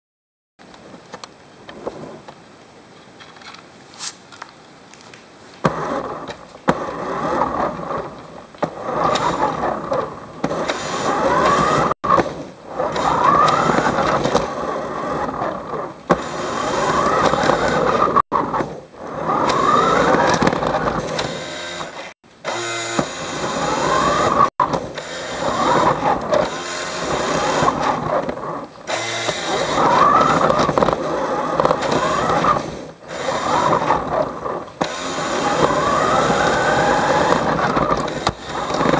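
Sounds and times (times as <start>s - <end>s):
wheels rattling on wooden floor: 5.6s - 22.1s, 23.0s - 38.9s
toy car motor whining: 5.6s - 38.9s.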